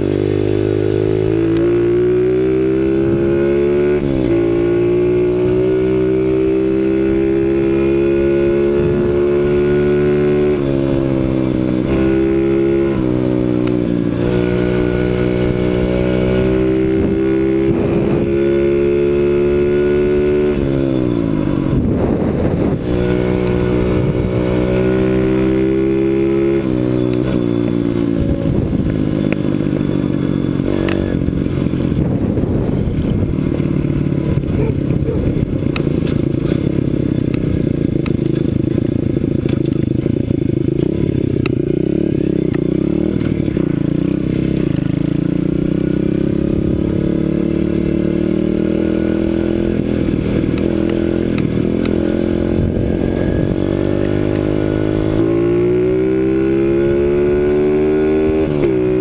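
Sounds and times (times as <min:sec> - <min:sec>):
small motorcycle engine revving: 0:00.0 - 0:59.0.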